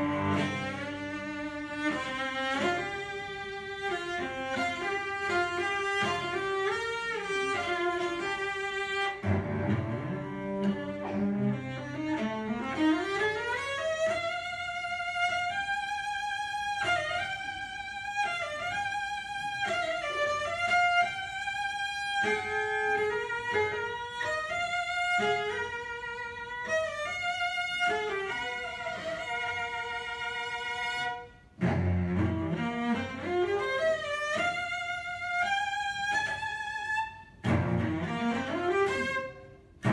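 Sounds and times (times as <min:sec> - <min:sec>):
solo cello playing: 0:00.0 - 0:39.9.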